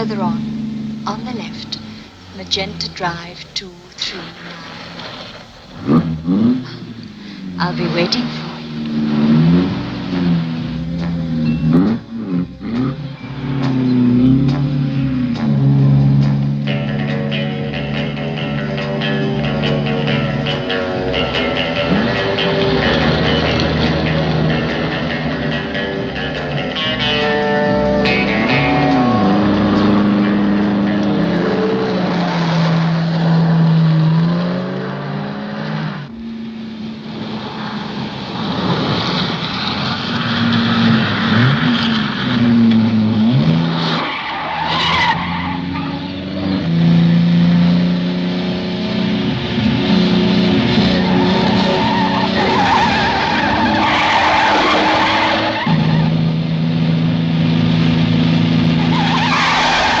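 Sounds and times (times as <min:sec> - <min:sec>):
tyres squealing: 0:00.0 - 0:34.0, 0:37.8 - 0:47.4, 0:49.5 - 0:56.5, 0:58.5 - 1:00.0
car engines revving: 0:00.0 - 1:00.0.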